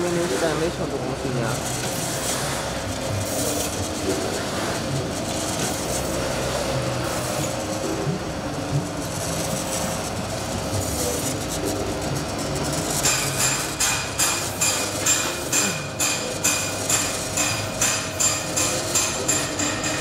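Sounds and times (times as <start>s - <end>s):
slicing machine running: 0.0s - 20.0s.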